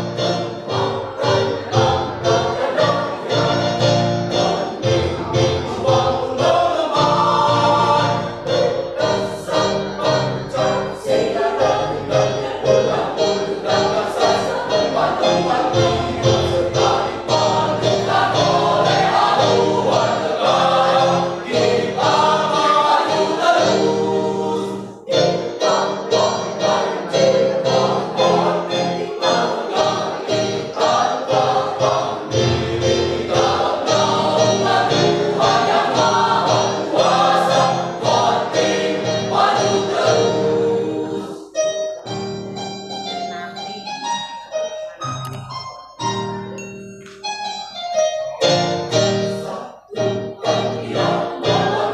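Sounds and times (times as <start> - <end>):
mixed choir singing a march: 0.0 - 41.6, 48.9 - 51.9
keyboard notes: 0.0 - 51.9.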